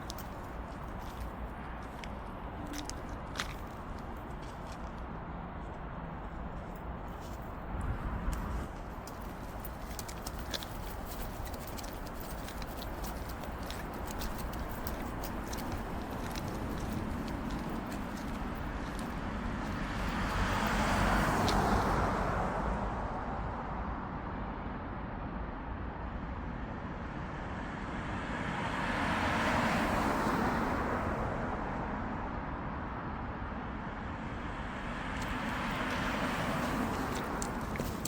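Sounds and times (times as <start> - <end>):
cars passing by: 0.0 - 38.0.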